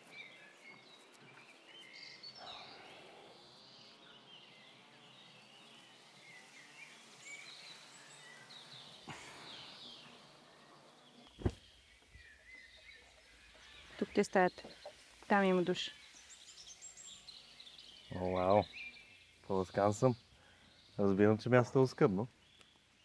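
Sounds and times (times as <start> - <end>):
light bird chirps: 0.0 - 23.0.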